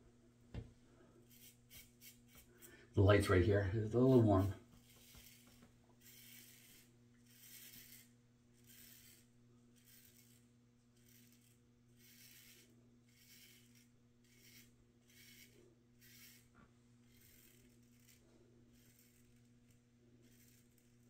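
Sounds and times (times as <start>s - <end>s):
steady low hum: 0.0s - 21.0s
razor scraping stubble: 1.2s - 21.0s.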